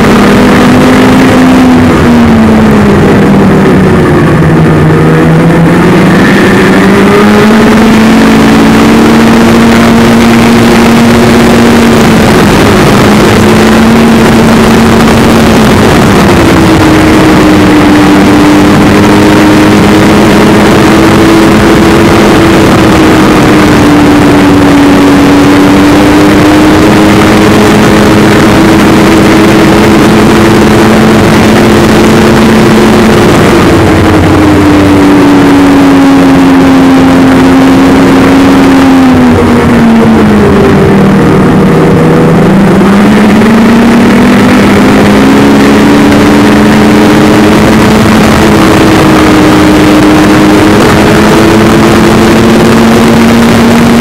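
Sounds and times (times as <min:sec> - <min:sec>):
rushing noise: 0:00.0 - 0:54.0
snowmobile engine running: 0:00.0 - 0:54.0.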